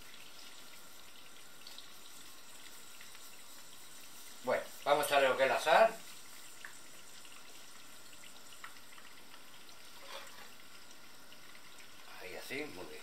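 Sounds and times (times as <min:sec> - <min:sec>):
oil sizzling in a pot: 0:00.0 - 0:13.0
small oil crackles: 0:00.0 - 0:13.0.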